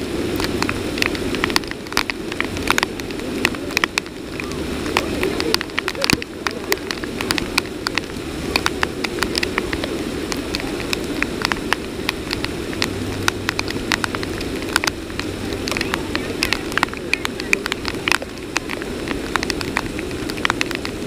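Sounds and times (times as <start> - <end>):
heavy rain falling: 0.0 - 21.0
raindrops ticking near microphone: 0.0 - 21.0.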